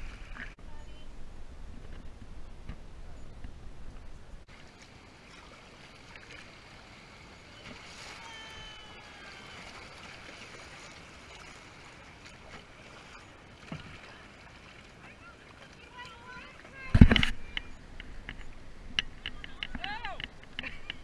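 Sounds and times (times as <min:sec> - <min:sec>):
water lapping along kayak hull: 0:00.0 - 0:21.0.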